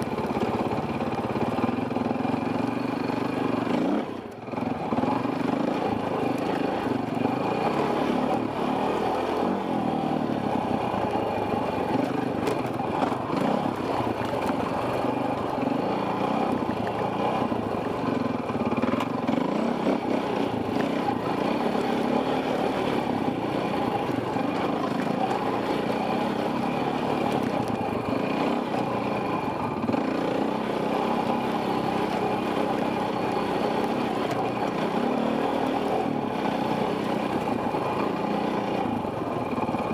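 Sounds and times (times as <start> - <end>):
dirt bike engine revving: 0.1 - 39.9.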